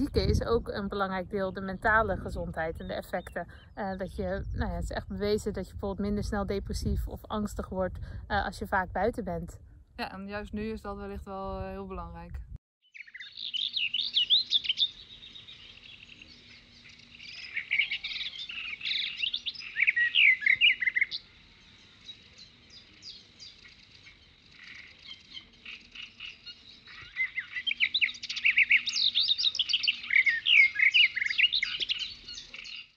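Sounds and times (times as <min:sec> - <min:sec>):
songbirds chirping and trilling: 0:00.0 - 0:09.3, 0:12.8 - 0:32.9.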